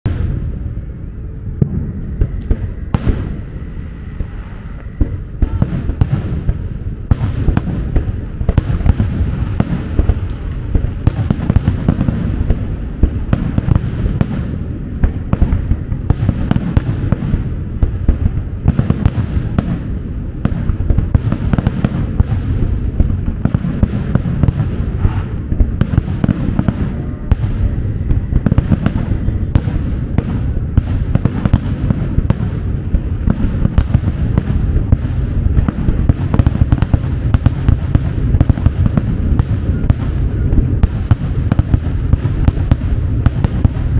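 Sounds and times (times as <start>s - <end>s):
fireworks bursting: 0.0s - 43.9s
heavy rumble: 0.0s - 43.9s.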